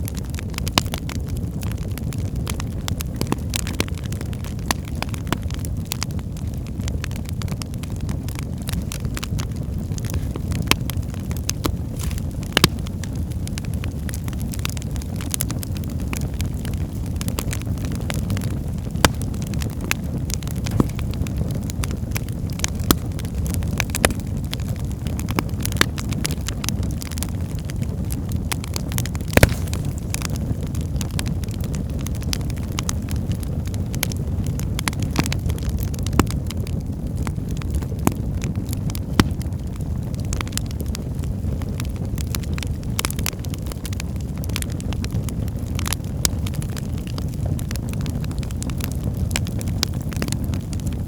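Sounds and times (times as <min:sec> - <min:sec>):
wood fire crackling and popping: 0:00.0 - 0:51.0.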